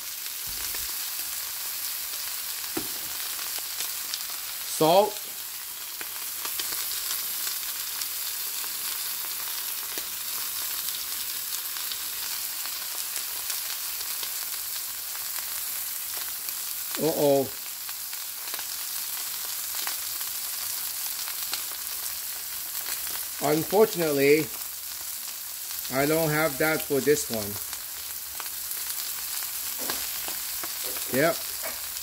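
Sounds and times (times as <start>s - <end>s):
meat sizzling in oil: 0.0s - 32.0s.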